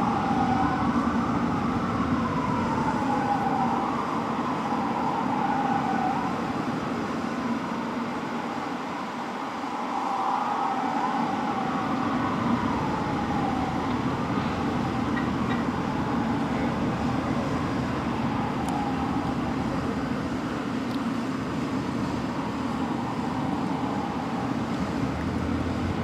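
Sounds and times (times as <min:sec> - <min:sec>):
fire engine rumbling: 0:00.0 - 0:09.6, 0:10.6 - 0:26.0
wailing siren: 0:00.0 - 0:26.0.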